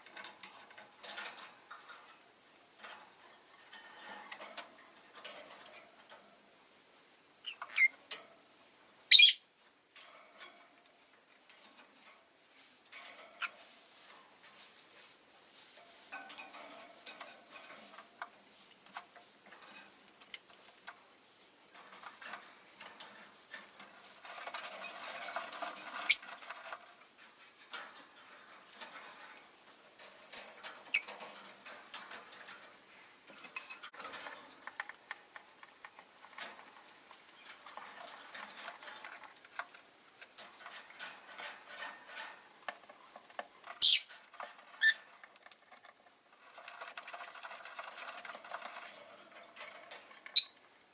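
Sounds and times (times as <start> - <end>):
birds scratching and rustling: 0.0 - 6.7, 7.4 - 8.6, 9.4 - 50.9.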